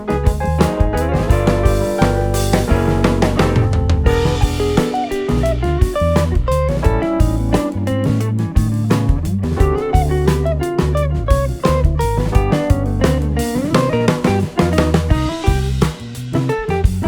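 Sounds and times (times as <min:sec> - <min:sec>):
plucked guitar melody: 0:00.0 - 0:15.8
bass: 0:00.0 - 0:17.0
steady drum beat: 0:00.0 - 0:17.0.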